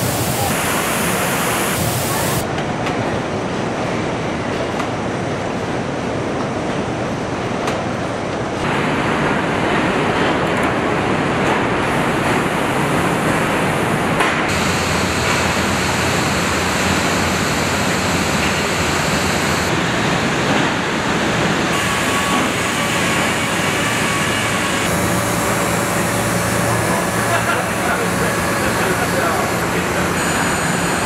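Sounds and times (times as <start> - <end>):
factory floor noise: 0.0 - 31.0.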